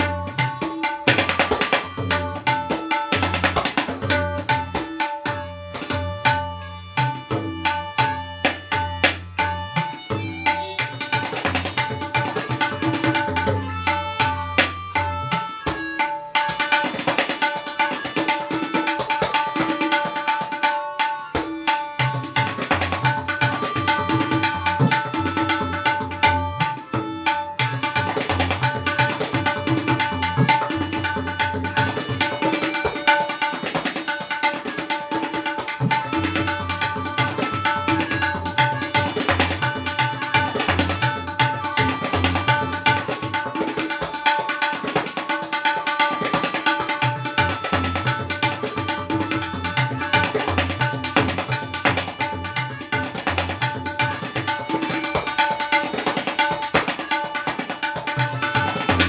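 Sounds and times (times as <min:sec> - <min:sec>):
tabla strokes: 0:00.0 - 0:59.0.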